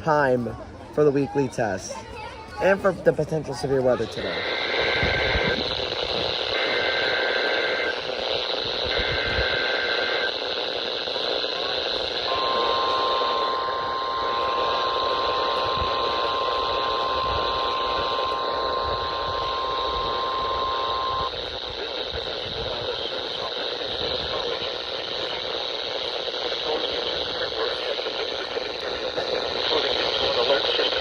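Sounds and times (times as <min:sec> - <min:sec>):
radio hiss: 0:00.0 - 0:02.0, 0:02.6 - 0:31.0.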